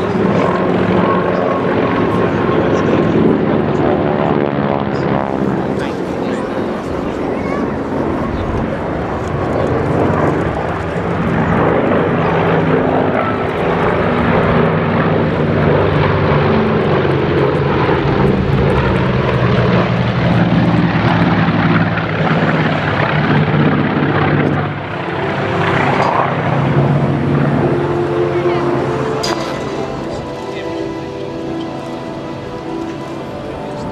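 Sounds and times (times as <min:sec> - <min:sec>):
propeller plane engines droning: 0:00.0 - 0:33.9.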